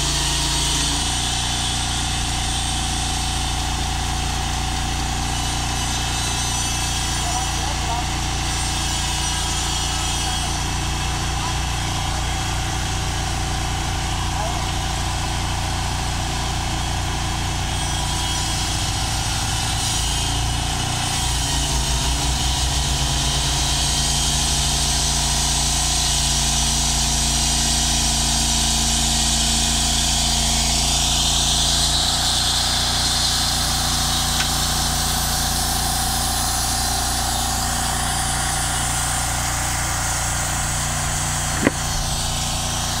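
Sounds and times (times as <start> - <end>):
band blade sawing log: 0.0 - 15.1, 17.4 - 43.0
sawmill engine humming: 0.0 - 43.0.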